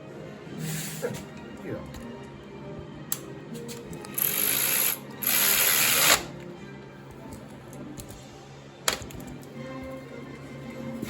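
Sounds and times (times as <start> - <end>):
quiet music: 0.0 - 11.0.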